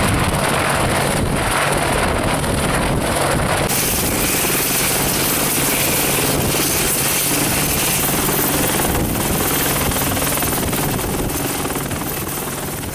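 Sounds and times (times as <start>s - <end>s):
helicopter drone: 0.0s - 12.9s
high turbine whine: 0.0s - 12.9s.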